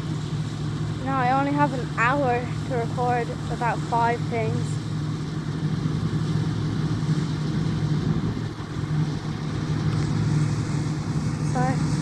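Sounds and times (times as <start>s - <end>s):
heavy machinery engine droning: 0.0s - 12.0s.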